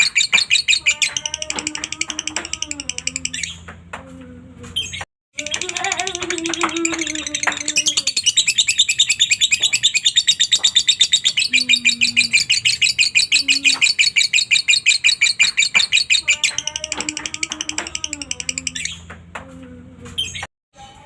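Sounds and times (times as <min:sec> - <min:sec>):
lovebird chirping chatter: 0:00.0 - 0:03.6, 0:04.8 - 0:19.1.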